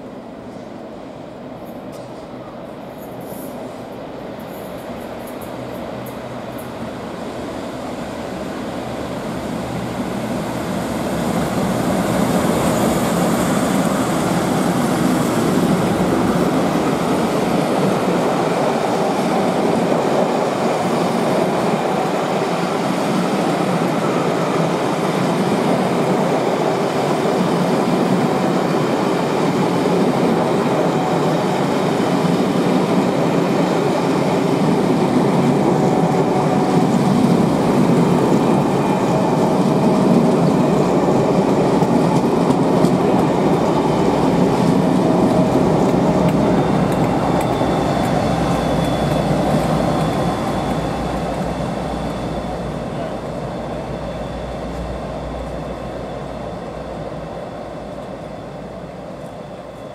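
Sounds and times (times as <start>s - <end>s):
diesel locomotives passing: 0.0s - 59.9s
passenger coaches rumbling on rails: 0.0s - 59.9s.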